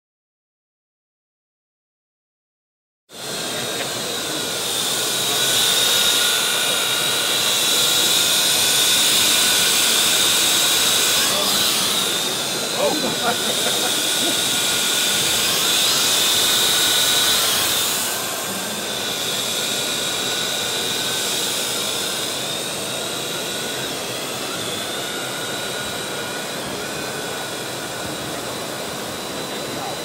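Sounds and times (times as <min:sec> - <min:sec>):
drone propellers whining: 0:03.2 - 0:30.0.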